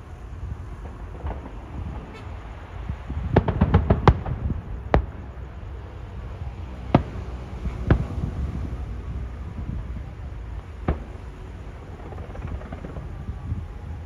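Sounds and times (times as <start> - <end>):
fireworks bangs: 0.0 - 14.0
low background rumble: 0.0 - 14.0.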